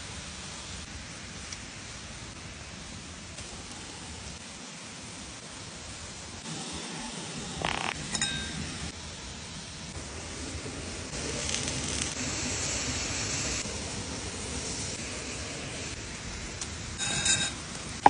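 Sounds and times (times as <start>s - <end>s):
meat sizzling over embers: 0.0s - 18.0s.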